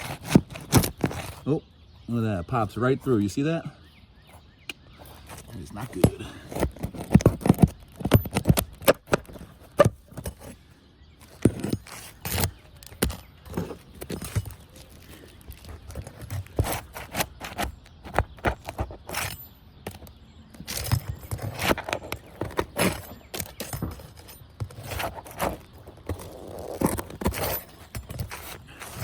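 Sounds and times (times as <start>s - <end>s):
metal tool scraping shingles: 0.0s - 1.5s, 5.0s - 29.0s.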